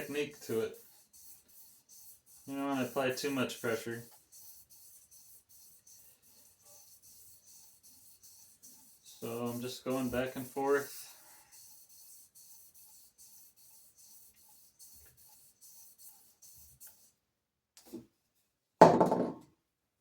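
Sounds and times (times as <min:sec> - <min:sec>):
sandpaper scraping on metal: 0:00.0 - 0:17.1.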